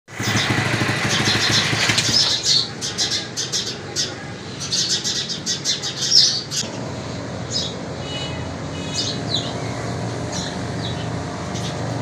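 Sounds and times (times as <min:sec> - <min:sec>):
small birds chirping: 0:00.1 - 0:12.0
steady low hum: 0:02.4 - 0:12.0.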